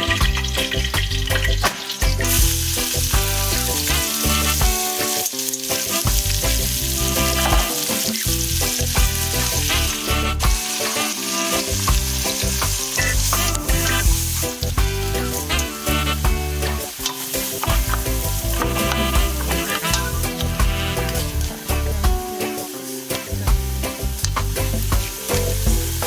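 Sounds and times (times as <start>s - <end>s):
background music: 0.0s - 26.0s
food sizzling in a pan: 0.0s - 26.0s.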